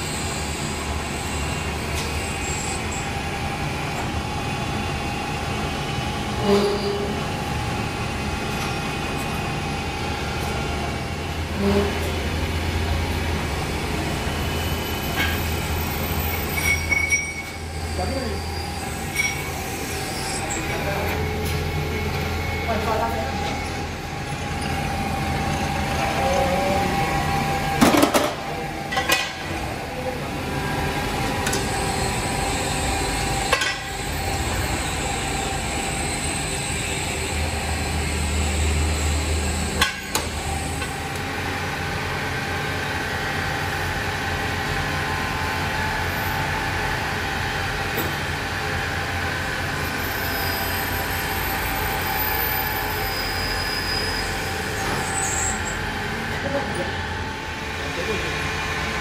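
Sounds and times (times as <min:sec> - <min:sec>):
lathes humming and whining: 0:00.0 - 0:59.0.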